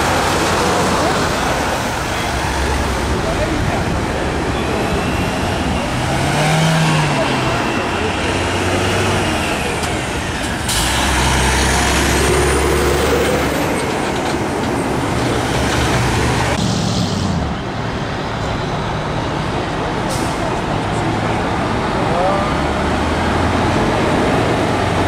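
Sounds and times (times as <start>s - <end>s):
truck engines running: 0.0s - 25.0s.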